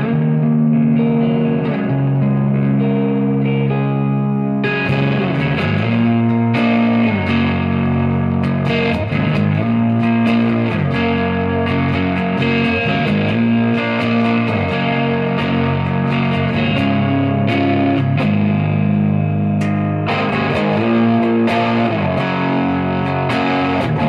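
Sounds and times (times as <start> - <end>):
overdriven electric guitar: 0.0 - 24.0.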